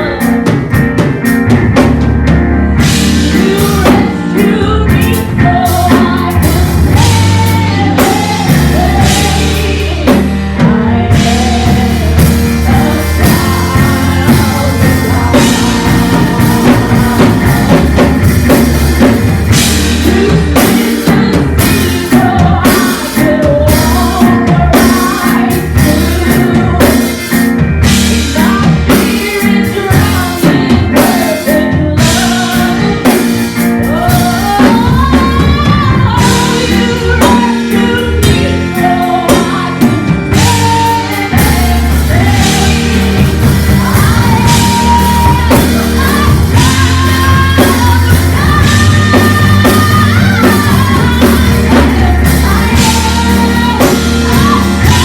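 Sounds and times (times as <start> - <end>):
band with drums and bass: 0.0 - 55.0
gospel singing: 2.7 - 55.0.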